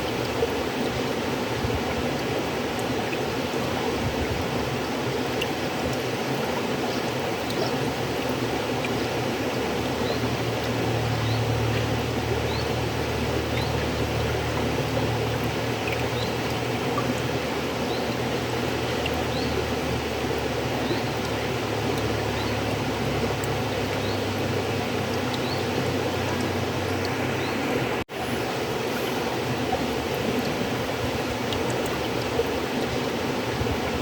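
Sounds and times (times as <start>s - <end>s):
low water rumble: 0.0s - 34.0s
river flowing over stones: 0.0s - 34.0s
water splashes and gurgles: 0.0s - 34.0s.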